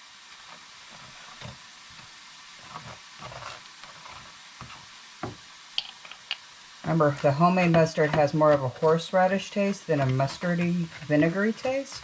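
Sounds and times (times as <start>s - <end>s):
food frying in a pan: 0.0s - 12.0s
knife tapping and scraping bread: 1.4s - 12.0s.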